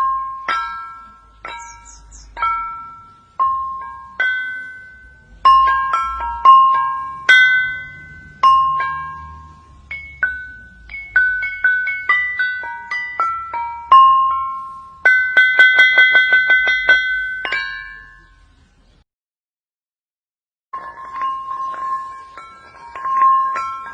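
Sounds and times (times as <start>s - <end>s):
ringing stones struck: 0.0s - 18.4s, 20.8s - 23.9s.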